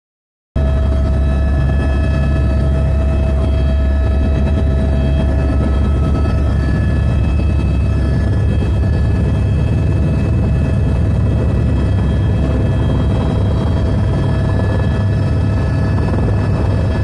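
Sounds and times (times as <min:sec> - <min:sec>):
helicopter in flight: 0:00.6 - 0:17.0.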